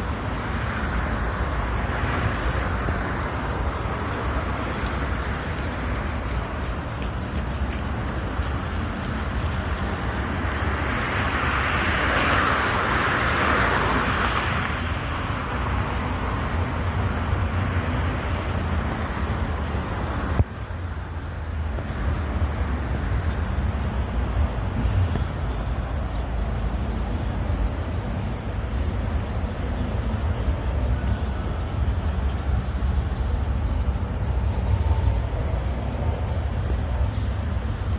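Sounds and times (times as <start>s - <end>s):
road traffic rumble: 0.0s - 37.9s.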